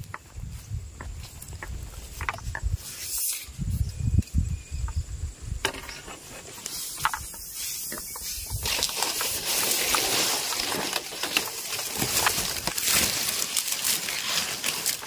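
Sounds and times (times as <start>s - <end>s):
bamboo poles creaking and clicking: 0.0s - 15.0s.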